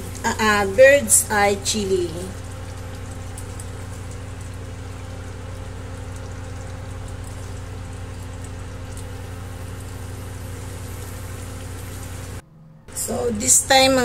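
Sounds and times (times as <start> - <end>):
sauce bubbling in a wok: 0.0 - 12.4
low electrical hum: 0.0 - 14.0.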